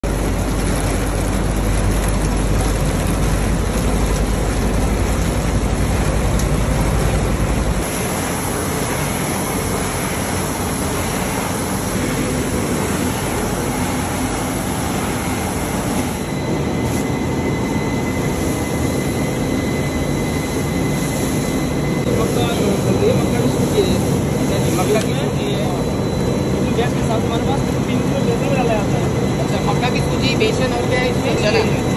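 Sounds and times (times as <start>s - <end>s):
factory machinery running: 0.0s - 31.9s.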